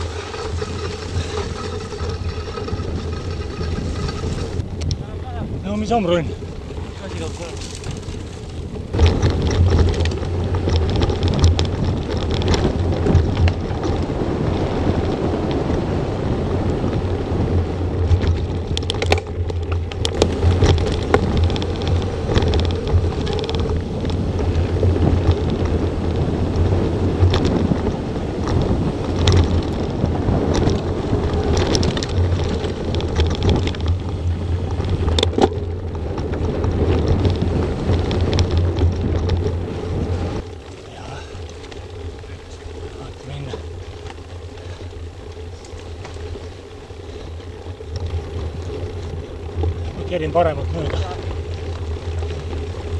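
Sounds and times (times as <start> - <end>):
bike tyre noise and rattles: 0.0 - 52.9
wind rumble on microphone: 0.0 - 52.9.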